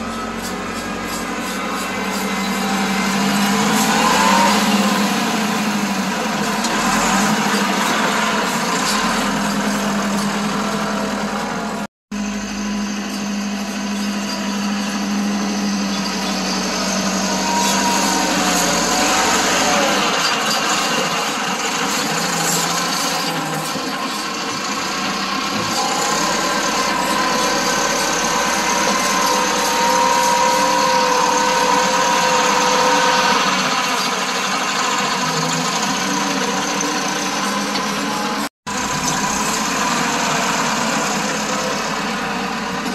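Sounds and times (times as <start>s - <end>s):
engine whine: 0.0s - 42.9s
tractor diesel engine running: 0.0s - 42.9s.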